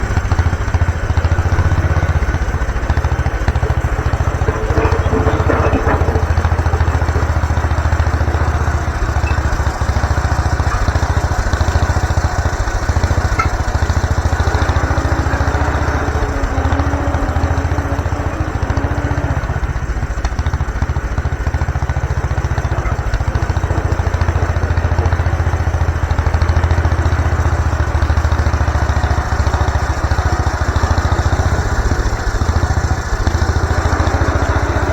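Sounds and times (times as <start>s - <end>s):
small gasoline engine running: 0.0s - 34.9s.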